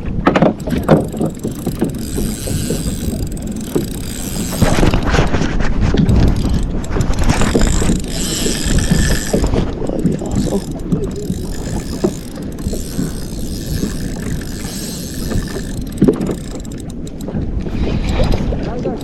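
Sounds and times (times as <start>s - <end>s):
wind buffeting microphone: 0.0s - 19.0s
fishing reel clicking: 0.4s - 5.4s, 6.1s - 18.0s.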